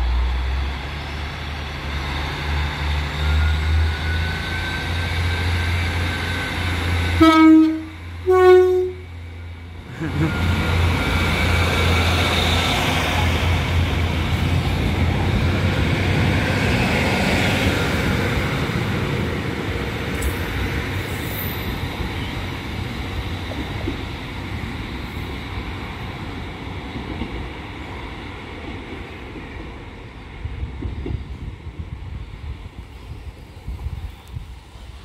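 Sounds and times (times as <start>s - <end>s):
diesel train engine: 0.0s - 35.0s
train wheels on rails: 0.0s - 35.0s.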